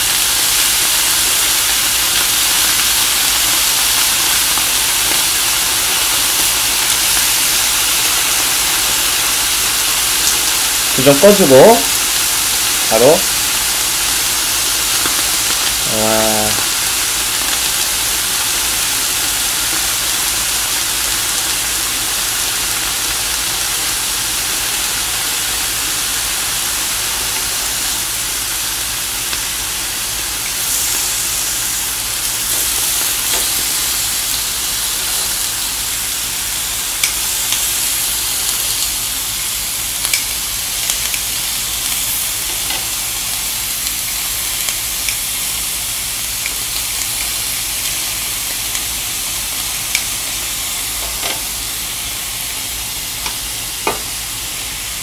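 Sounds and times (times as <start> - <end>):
beef sizzling on a grill plate: 0.0 - 55.0.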